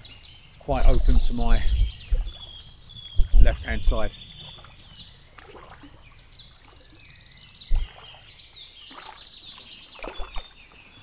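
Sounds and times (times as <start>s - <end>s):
small birds chirping and trilling: 0.0s - 11.0s.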